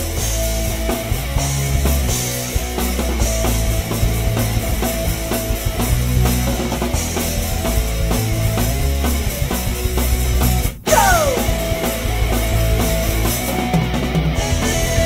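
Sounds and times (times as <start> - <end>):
heavy bass line: 0.0 - 13.4
rock music: 0.0 - 15.0
steady drum beat: 0.0 - 15.0.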